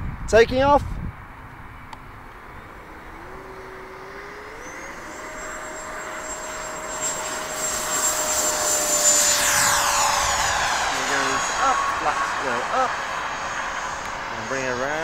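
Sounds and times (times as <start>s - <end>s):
electric ducted fan whine: 0.0s - 15.0s.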